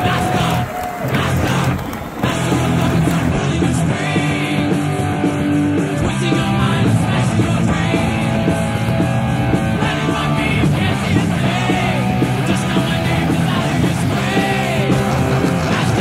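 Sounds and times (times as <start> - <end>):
loud rock music with singing: 0.0 - 16.0.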